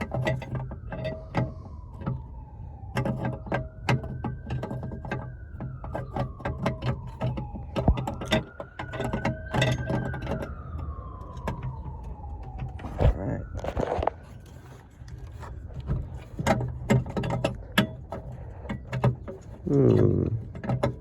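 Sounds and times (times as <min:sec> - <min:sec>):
distant siren wailing: 0:00.0 - 0:21.0
plastic scraping rub: 0:00.0 - 0:21.0
plastic clicks and rattles: 0:02.8 - 0:13.0, 0:13.6 - 0:21.0.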